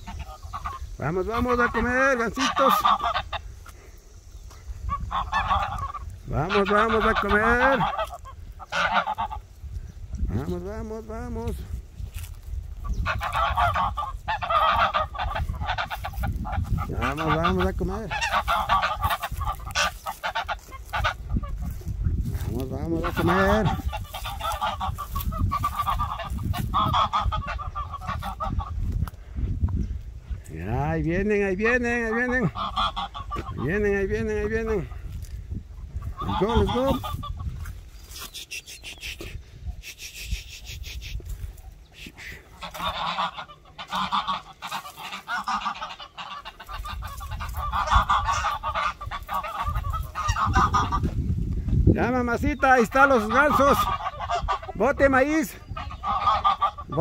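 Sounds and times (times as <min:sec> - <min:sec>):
geese honking: 0:00.0 - 0:29.0, 0:30.7 - 0:51.4, 0:52.0 - 0:57.0.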